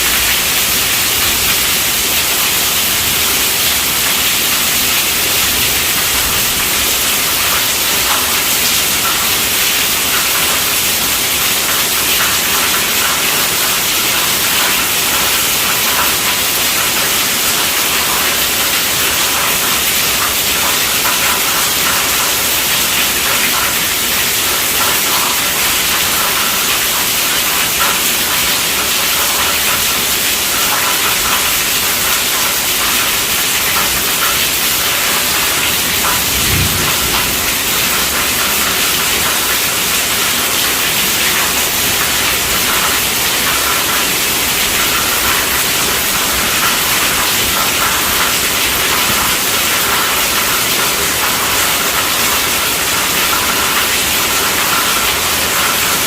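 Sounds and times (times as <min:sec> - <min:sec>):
heavy rain on a tent roof: 0:00.0 - 0:56.0.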